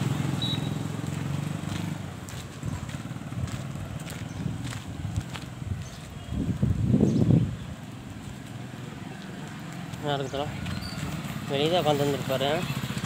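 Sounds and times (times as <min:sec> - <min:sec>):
vehicle engine running: 0:00.0 - 0:05.8, 0:08.0 - 0:13.0.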